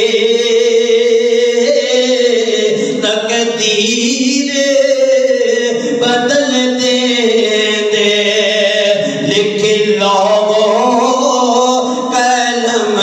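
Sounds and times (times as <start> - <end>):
man chanting over a microphone: 0.0 - 13.0.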